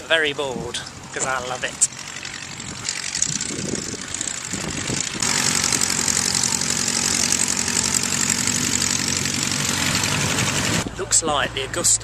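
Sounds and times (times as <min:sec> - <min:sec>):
light aircraft engine idling: 0:00.8 - 0:10.9.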